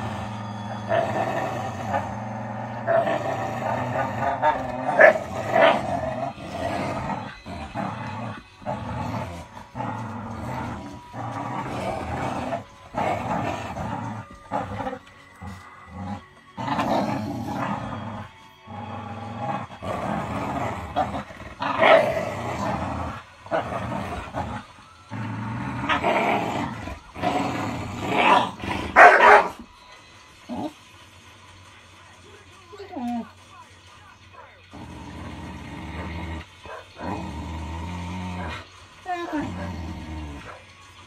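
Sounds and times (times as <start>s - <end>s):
dogs growling: 0.0s - 29.7s, 30.5s - 30.8s, 32.8s - 33.4s, 34.3s - 40.9s.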